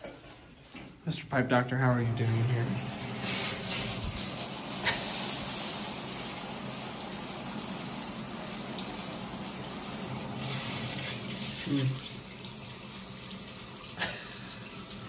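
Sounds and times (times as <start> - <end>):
shower water spraying on tiles: 0.7 - 15.0.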